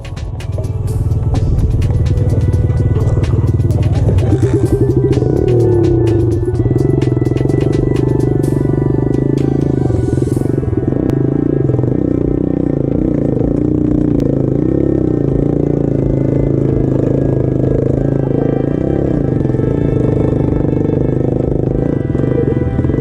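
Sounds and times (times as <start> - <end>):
pit bike engine revving: 0.0 - 23.0.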